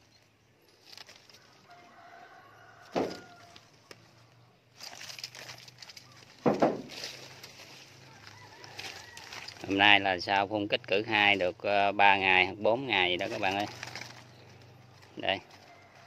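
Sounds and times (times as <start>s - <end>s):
chickens calling: 0.0s - 16.0s
leaves rustling: 0.0s - 16.0s.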